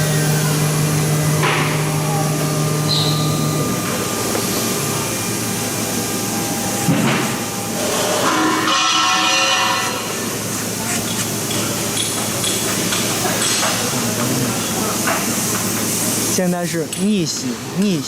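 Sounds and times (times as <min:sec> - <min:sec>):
cnc cutting machine running: 0:00.0 - 0:18.0.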